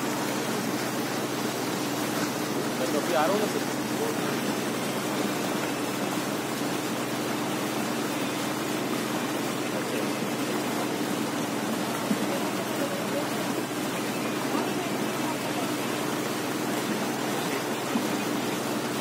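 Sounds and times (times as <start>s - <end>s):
boat engine hum: 0.0s - 19.0s.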